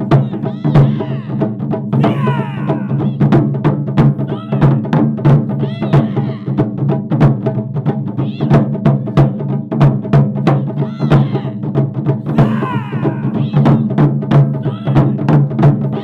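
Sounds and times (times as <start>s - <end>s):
taiko drum ensemble playing: 0.0s - 16.0s.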